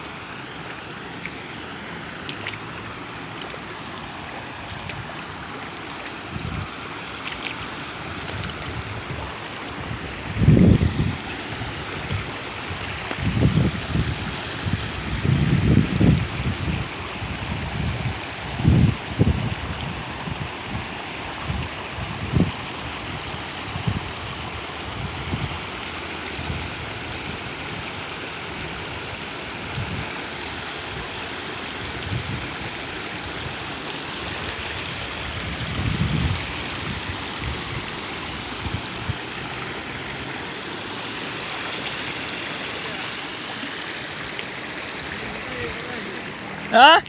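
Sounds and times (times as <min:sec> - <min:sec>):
rain and running water: 0:00.0 - 0:47.0.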